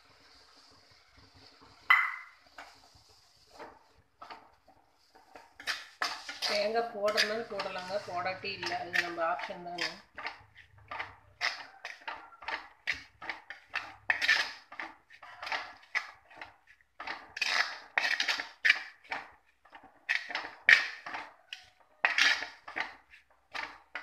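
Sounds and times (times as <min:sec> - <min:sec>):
metal spoon scraping a pan: 0:00.1 - 0:24.0.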